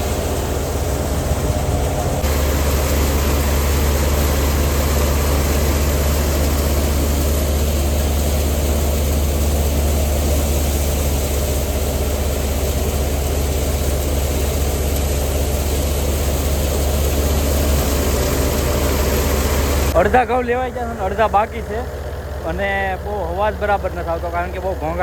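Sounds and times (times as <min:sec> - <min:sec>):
thresher machine drone: 0:00.0 - 0:25.0.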